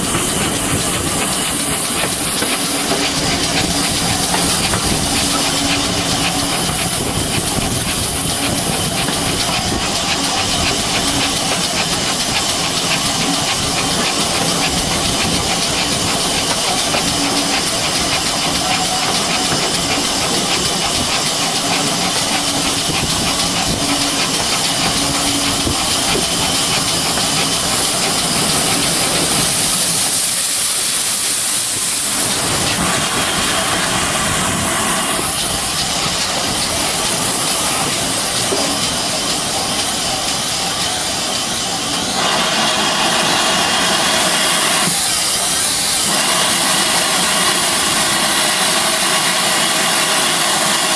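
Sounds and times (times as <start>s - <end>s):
steam locomotive hissing steam: 0.0s - 50.9s.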